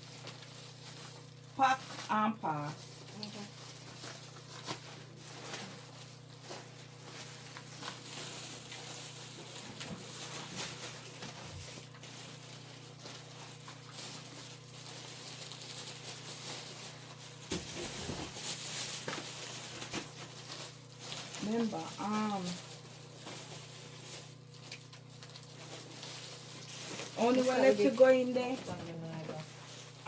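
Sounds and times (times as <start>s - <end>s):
packaged goods rustling and knocking: 2.9s - 30.0s.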